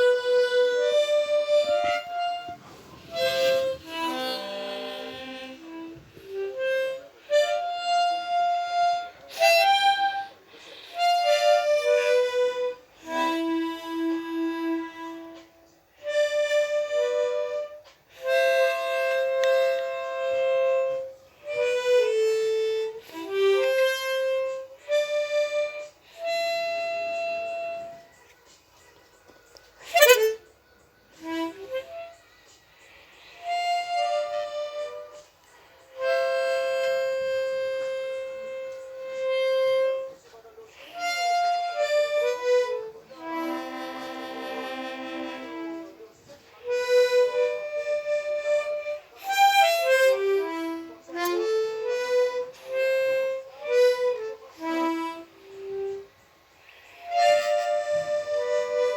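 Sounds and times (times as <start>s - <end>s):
harmonica melody: 0.0s - 58.9s.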